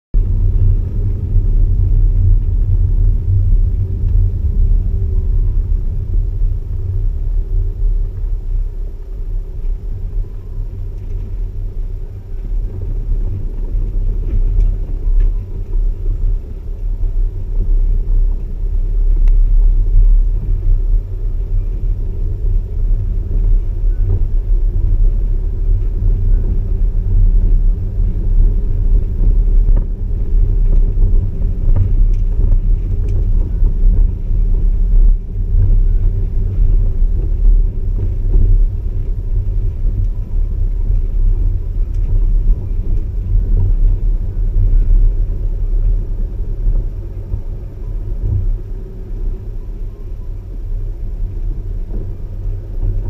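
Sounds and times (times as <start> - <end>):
vehicle engine and tyres rumbling: 0.1 - 53.0.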